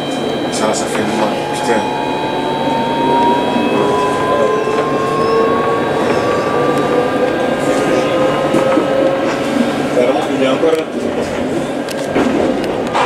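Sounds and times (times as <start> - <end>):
tram electric motor whining: 0.0 - 13.0
wheels rumbling on rails: 0.0 - 13.0.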